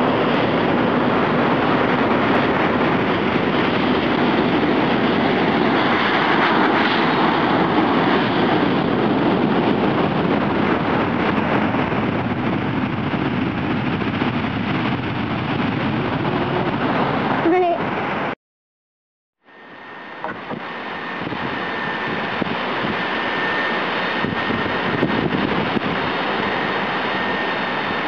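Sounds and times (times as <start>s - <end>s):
jet airliner landing: 0.0s - 18.4s, 19.4s - 28.0s.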